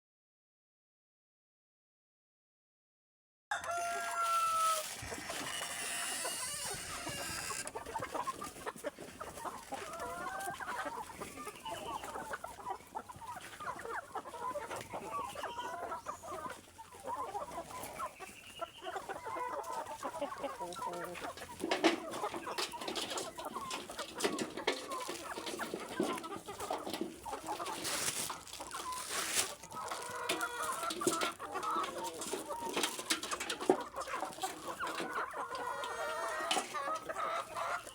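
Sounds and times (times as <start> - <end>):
chickens clucking: 3.5 - 37.9.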